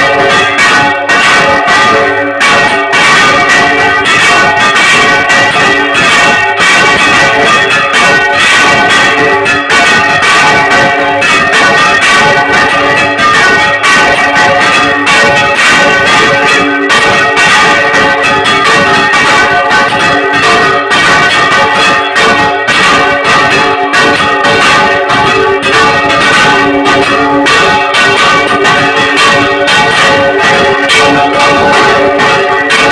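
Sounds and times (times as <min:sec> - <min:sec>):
church bells pealing: 0:00.0 - 0:32.9.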